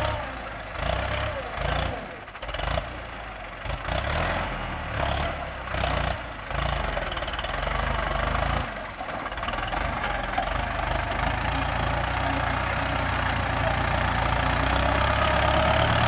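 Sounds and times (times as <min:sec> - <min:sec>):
tractor diesel engine rumble: 0:00.0 - 0:16.0.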